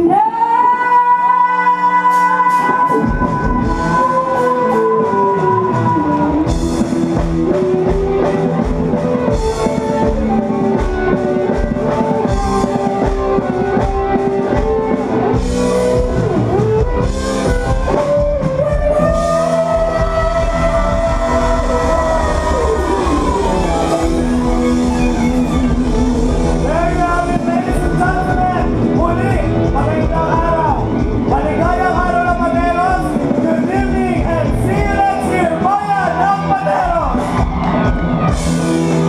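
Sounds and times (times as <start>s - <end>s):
bass guitar: 0.0s - 39.0s
electric guitar lead melody: 0.0s - 39.0s
drum kit: 2.0s - 39.0s.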